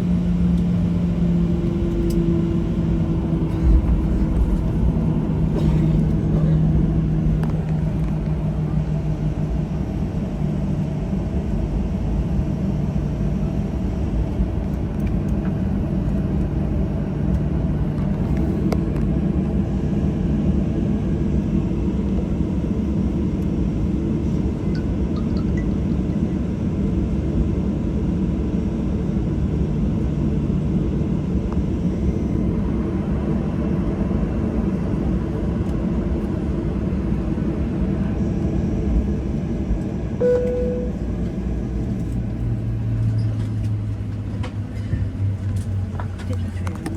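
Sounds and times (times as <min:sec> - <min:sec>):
aircraft cabin rumble: 0:00.0 - 0:46.9.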